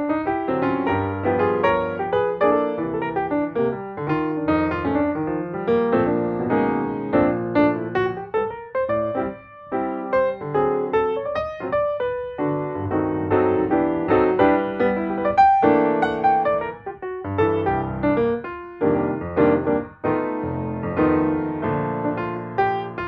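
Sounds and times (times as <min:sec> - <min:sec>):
gentle solo piano piece: 0:00.0 - 0:23.0.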